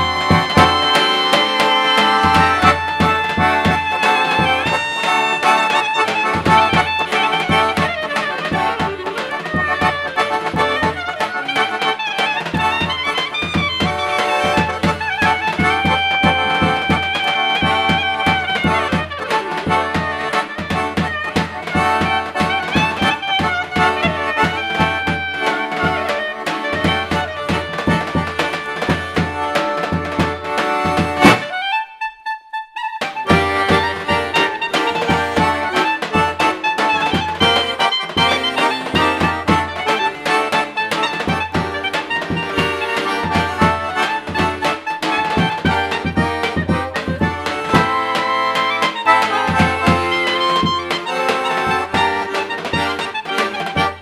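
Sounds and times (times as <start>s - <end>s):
klezmer band playing: 0.0s - 54.0s.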